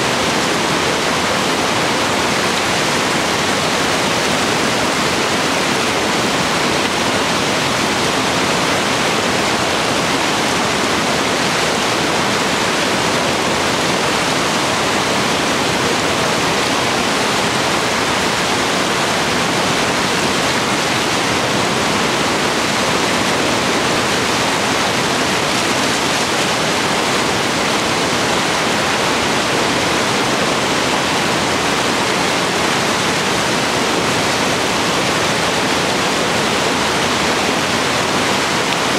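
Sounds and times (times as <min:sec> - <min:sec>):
water rushing over boulders: 0:00.0 - 0:38.9.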